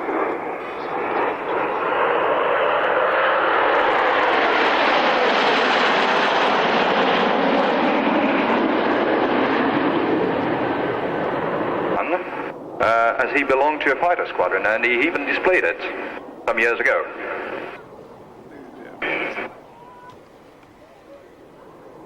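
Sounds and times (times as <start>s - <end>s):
jet aircraft flypast: 0.0s - 22.0s.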